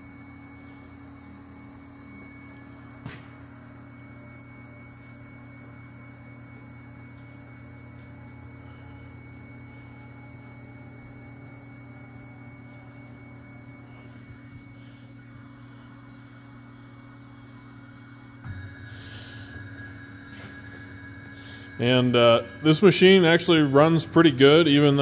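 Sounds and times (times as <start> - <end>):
electrical hum with whine tones: 0.0 - 25.0.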